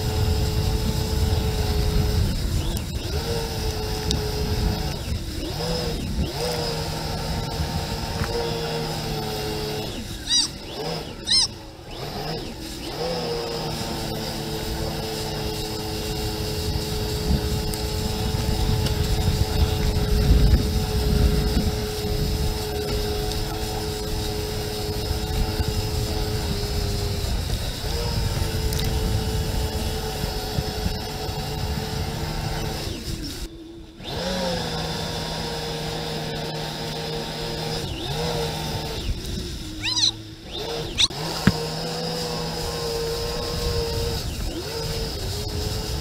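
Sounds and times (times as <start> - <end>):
spray and wind rushing: 0.0 - 46.0
watercraft engine whine: 0.0 - 46.0.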